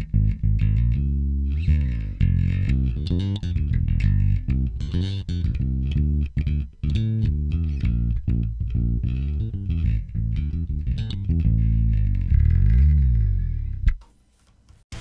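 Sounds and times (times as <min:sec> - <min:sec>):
electric bass plucked notes: 0:00.0 - 0:14.0.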